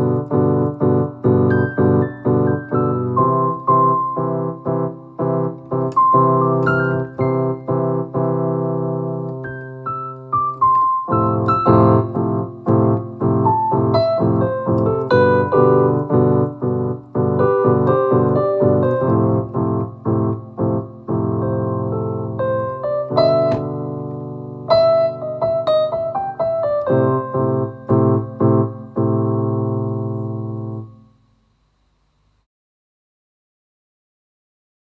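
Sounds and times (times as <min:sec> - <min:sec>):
electronic keyboard piano playing: 0:00.0 - 0:31.1.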